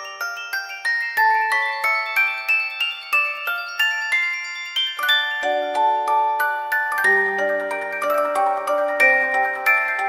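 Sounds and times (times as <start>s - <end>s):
glockenspiel melody: 0.0s - 10.0s.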